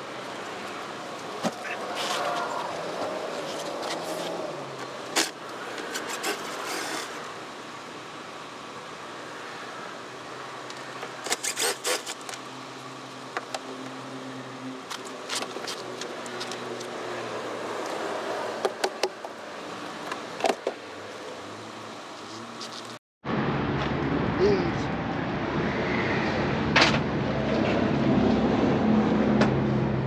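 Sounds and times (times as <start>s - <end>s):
low vehicle hum: 0.0s - 30.0s.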